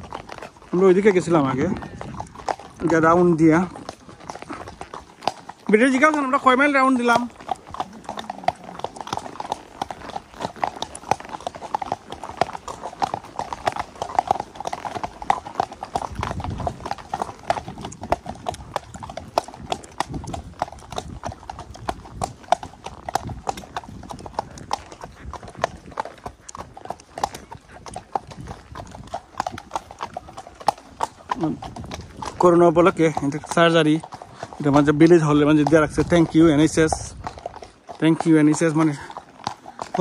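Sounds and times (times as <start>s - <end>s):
horse hooves clip-clopping on tarmac: 0.0s - 40.0s.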